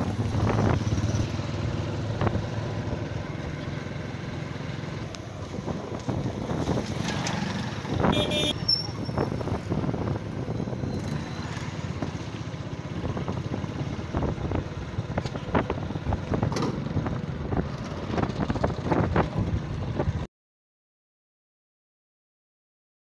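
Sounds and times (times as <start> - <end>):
wind rumbling on microphone: 0.0 - 3.4, 5.0 - 20.3.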